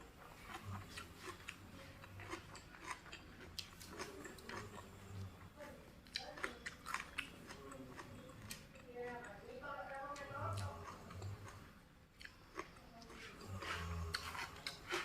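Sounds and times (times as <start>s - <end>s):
chewing crunchy vegetables: 0.0s - 15.0s.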